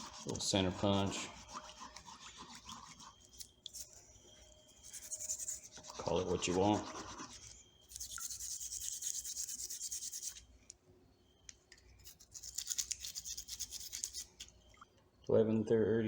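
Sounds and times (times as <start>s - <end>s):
scrubbing on a metal tool: 0.0s - 10.5s, 12.0s - 14.5s.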